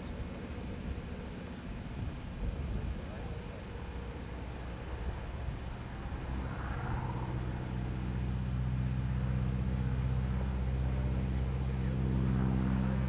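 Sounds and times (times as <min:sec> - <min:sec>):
propeller plane engine overhead: 0:00.0 - 0:13.0.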